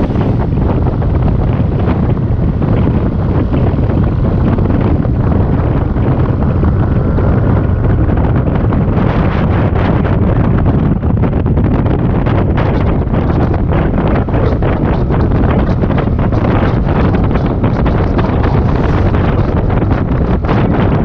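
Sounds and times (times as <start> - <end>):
scooter running: 0.0 - 9.8, 12.6 - 21.0
wind buffeting microphone: 0.0 - 21.0.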